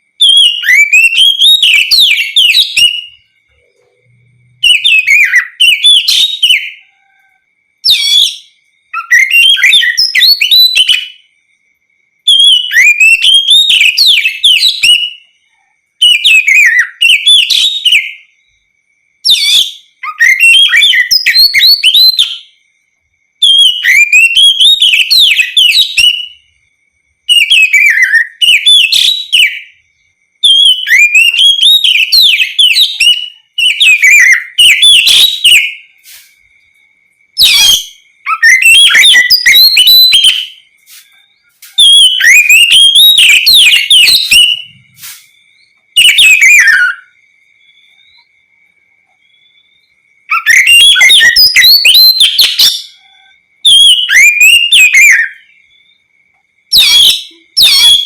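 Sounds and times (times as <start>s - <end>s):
faint steady high tone: 0.0s - 58.0s
bird singing whistled phrases: 0.2s - 11.3s, 12.3s - 18.5s, 19.2s - 22.6s, 23.4s - 26.6s, 27.3s - 29.8s, 30.4s - 48.3s, 49.1s - 56.0s, 56.7s - 58.0s.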